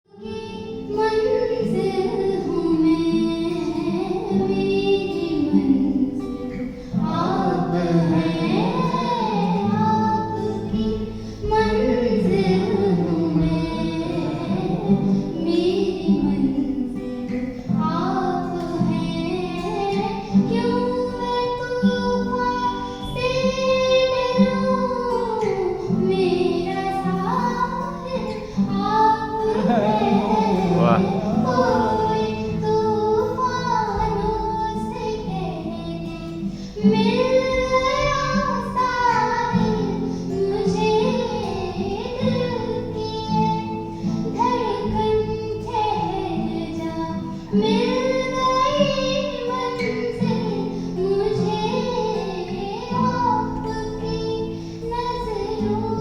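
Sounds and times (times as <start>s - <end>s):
girl singing: 0.1s - 56.0s.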